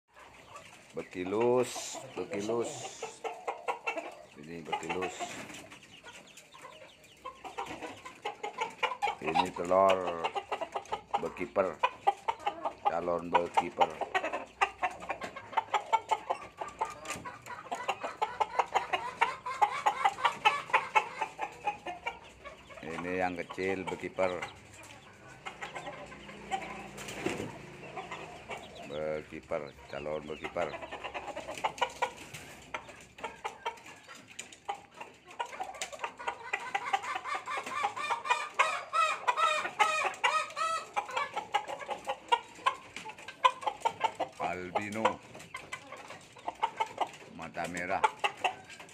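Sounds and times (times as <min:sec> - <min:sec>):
chickens clucking: 0:00.1 - 0:48.9.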